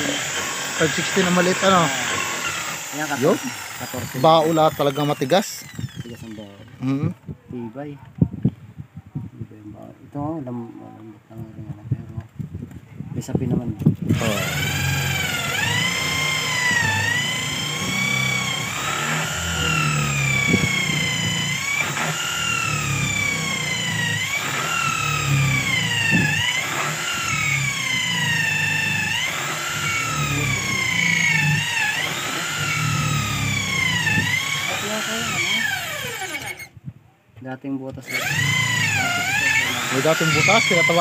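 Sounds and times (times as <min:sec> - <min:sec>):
electric drill boring into wood: 0:00.0 - 0:07.1, 0:14.0 - 0:36.8, 0:38.0 - 0:41.0.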